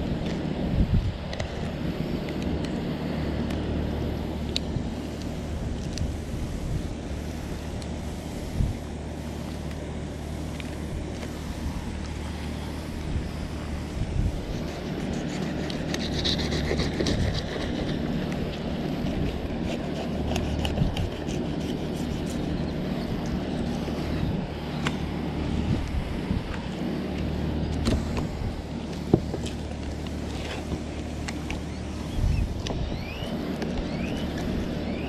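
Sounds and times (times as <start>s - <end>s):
wind noise on microphone: 0.0s - 9.2s, 9.9s - 27.0s, 27.6s - 29.6s, 30.3s - 35.0s
steady low hum: 0.0s - 35.0s.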